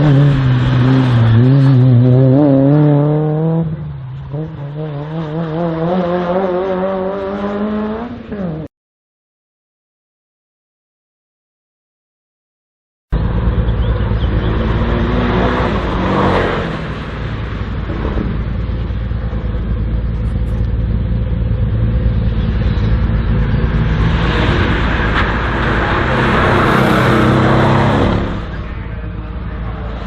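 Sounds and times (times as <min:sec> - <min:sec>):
racing car engine revving: 0:00.0 - 0:08.7, 0:13.2 - 0:30.0.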